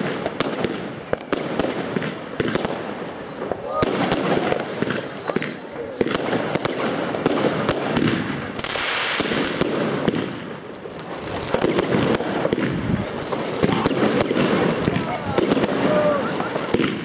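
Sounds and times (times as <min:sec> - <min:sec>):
fireworks hiss: 0:00.0 - 0:17.0
fireworks popping and crackling: 0:00.0 - 0:17.0.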